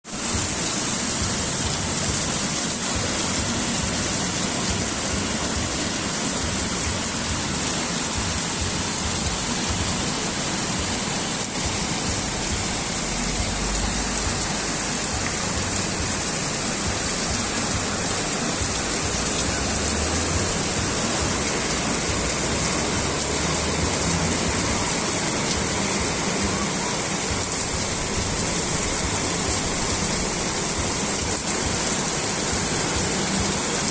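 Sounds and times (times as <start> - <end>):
rain falling steadily: 0.0 - 33.9.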